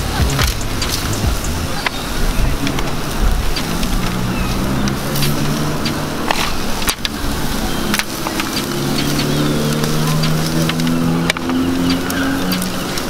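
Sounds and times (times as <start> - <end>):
sharp clicks: 0.0 - 13.0
vehicle engine running: 0.0 - 13.0.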